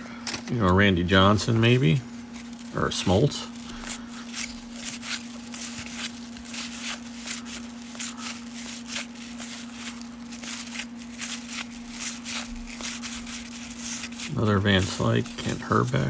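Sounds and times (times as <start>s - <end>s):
steady low hum: 0.0s - 16.0s
cards sliding and flicking: 2.3s - 16.0s.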